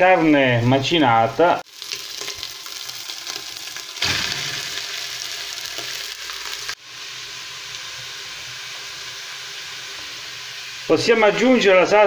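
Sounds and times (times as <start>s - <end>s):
meat sizzling in oil: 1.6s - 12.0s.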